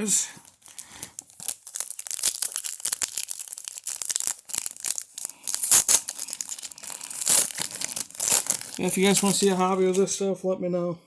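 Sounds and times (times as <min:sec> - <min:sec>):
wrapper crinkling and tearing: 0:00.2 - 0:09.8.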